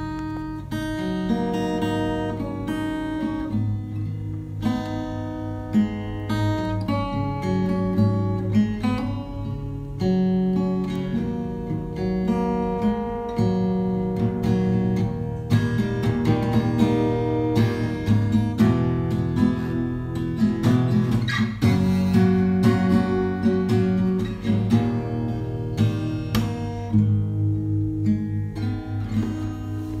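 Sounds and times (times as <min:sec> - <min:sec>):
acoustic guitar music: 0:00.0 - 0:30.0.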